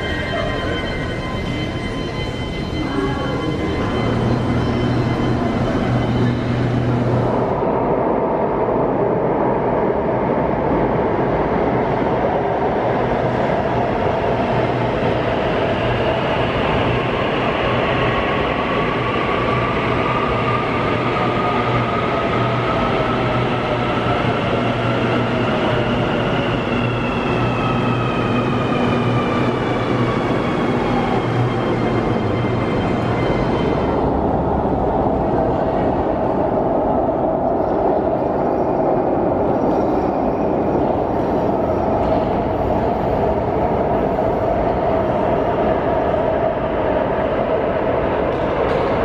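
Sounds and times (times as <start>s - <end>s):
metro train running: 0.0s - 49.0s.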